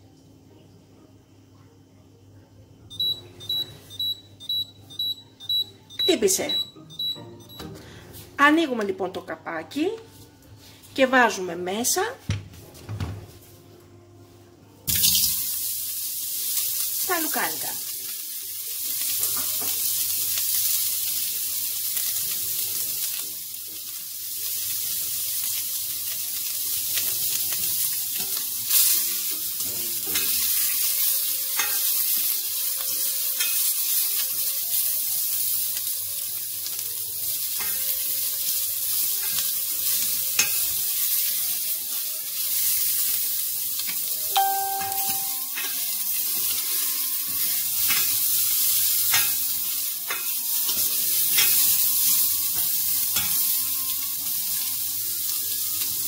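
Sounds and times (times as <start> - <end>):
sausages sizzling in pot: 2.9 - 12.0, 14.8 - 56.0.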